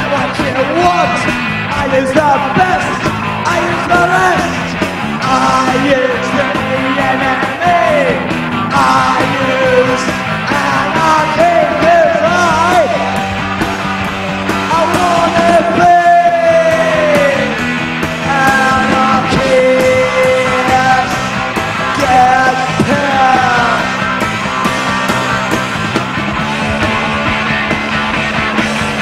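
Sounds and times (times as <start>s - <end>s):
shouted lead vocal: 0.0s - 25.6s
punk rock band playing: 0.0s - 29.0s.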